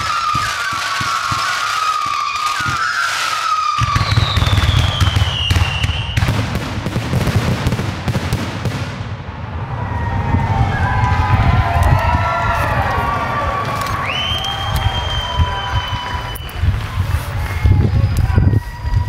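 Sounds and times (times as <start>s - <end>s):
fireworks bangs and crackling: 0.0s - 19.0s
whistling fireworks: 0.0s - 19.0s.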